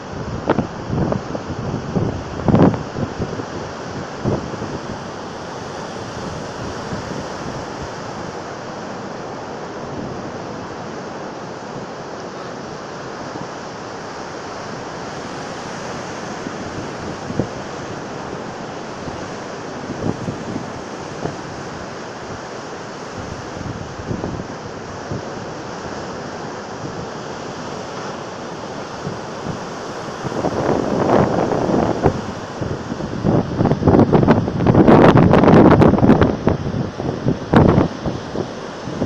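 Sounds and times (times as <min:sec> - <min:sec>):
wind buffeting microphone: 0:00.0 - 0:12.8, 0:13.4 - 0:27.2, 0:28.0 - 0:39.0
sea surf breaking: 0:00.0 - 0:39.0.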